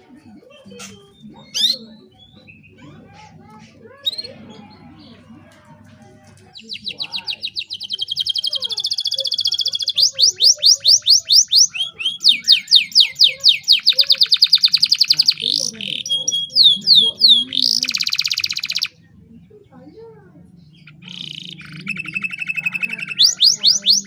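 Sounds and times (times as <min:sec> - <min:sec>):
canary singing trills: 0:00.0 - 0:05.3, 0:06.5 - 0:24.0.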